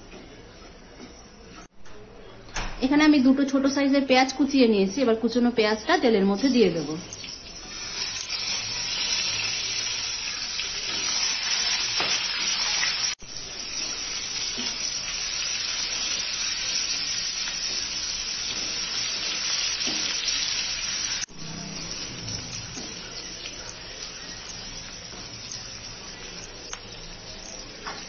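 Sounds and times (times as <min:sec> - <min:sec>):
onions sizzling in hot oil: 0:05.2 - 0:28.0.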